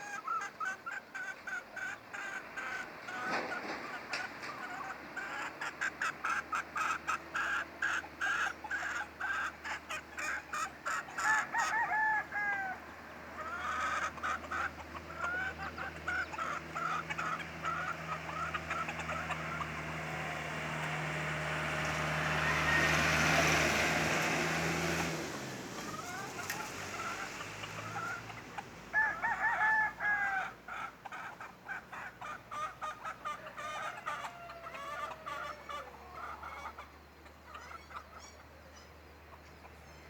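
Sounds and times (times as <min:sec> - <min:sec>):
birds calling: 0:00.0 - 0:40.0.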